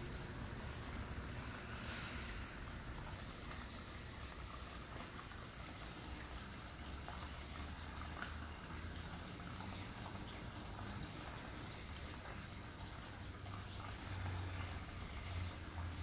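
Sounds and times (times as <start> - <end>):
fountain water trickling: 0.0 - 16.0.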